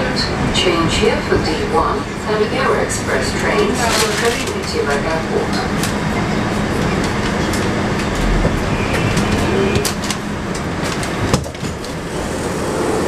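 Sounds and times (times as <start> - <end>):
train running and rail noise: 0.0 - 13.0.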